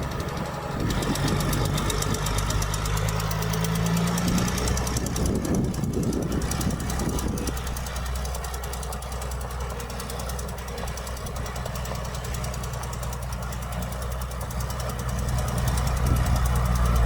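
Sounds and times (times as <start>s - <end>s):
diesel engine clattering: 0.0s - 17.0s.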